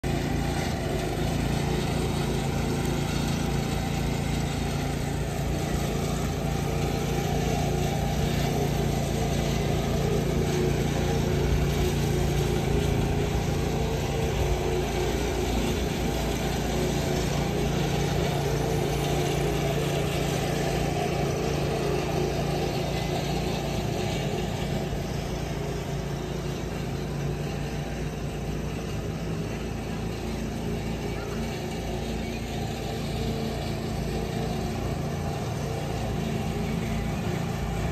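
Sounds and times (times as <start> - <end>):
small engine running steadily: 0.0 - 37.9.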